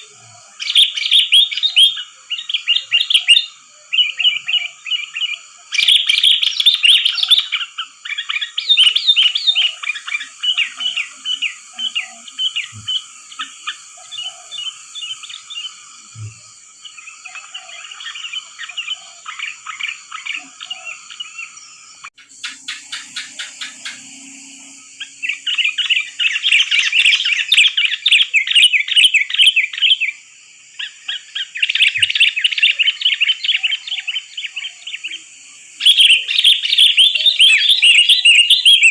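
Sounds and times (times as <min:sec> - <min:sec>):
bulbuls chirping: 0:00.0 - 0:38.9
high hiss: 0:00.0 - 0:38.9.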